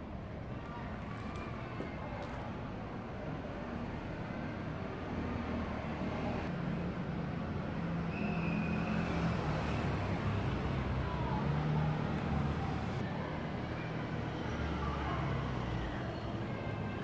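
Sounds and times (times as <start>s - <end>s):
passing vehicle engines humming: 0.0s - 17.0s
road noise rumble: 0.0s - 17.0s.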